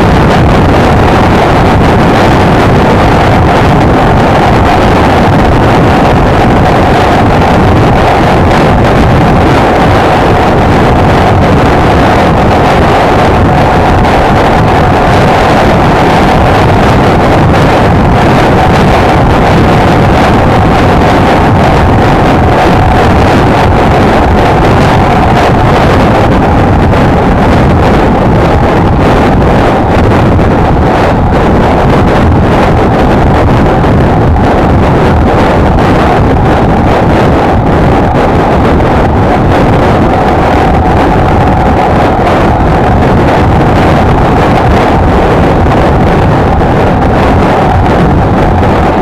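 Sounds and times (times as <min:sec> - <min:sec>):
motorcycle engine drone: 0:00.0 - 0:49.0
wind buffeting microphone: 0:00.0 - 0:49.0.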